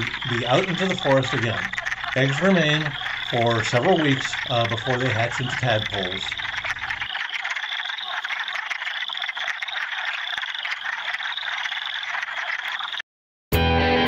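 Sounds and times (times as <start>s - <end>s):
frogs clucking chorus: 0.0s - 13.0s.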